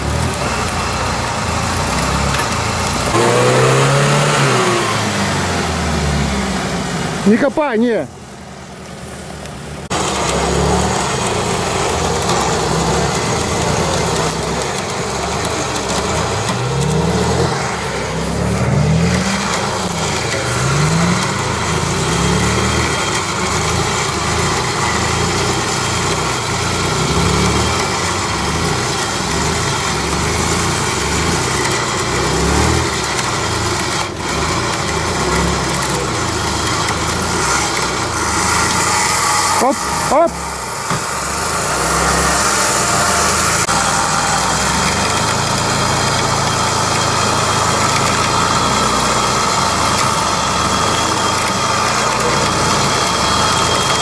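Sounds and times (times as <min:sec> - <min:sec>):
engine revving under load: 0:00.0 - 0:54.0.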